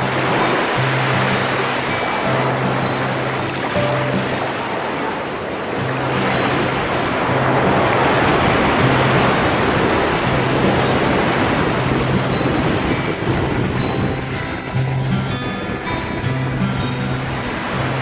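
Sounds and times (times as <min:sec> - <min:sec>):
waves breaking on pebbles: 0:00.0 - 0:14.7
music playing: 0:00.0 - 0:18.0.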